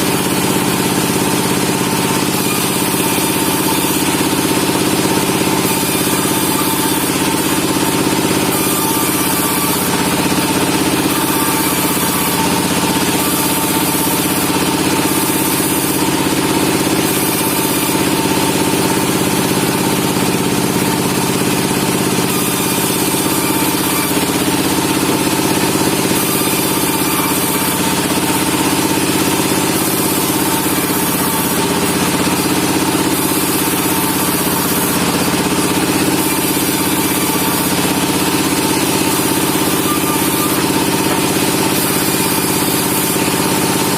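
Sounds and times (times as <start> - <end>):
sawmill engine hum: 0.0 - 43.9.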